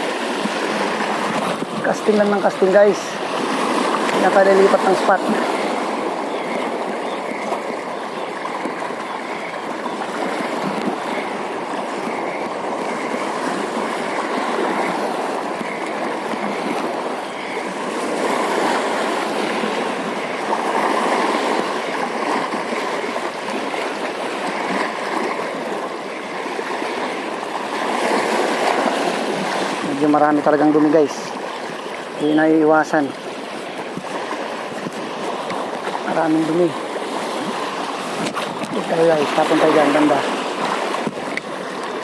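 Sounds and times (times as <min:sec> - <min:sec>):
water rushing: 0:00.0 - 0:42.0.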